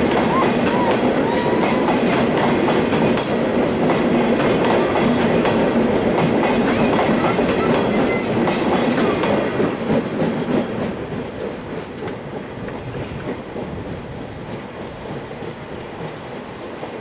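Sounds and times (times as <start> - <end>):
clickety-clack over rail joints: 0.0 - 17.0
train wheels rumbling on rails: 0.0 - 17.0.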